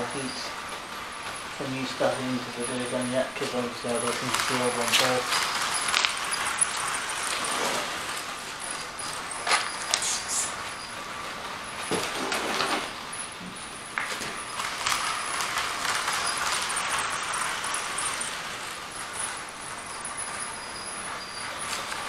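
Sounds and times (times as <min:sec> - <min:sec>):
model train rattling whir: 0:00.0 - 0:22.0
track clicks: 0:00.0 - 0:22.0.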